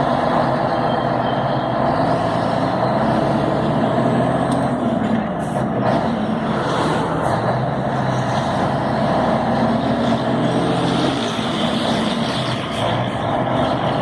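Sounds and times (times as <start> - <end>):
road noise: 0.0 - 14.0
truck diesel engine running: 0.0 - 14.0.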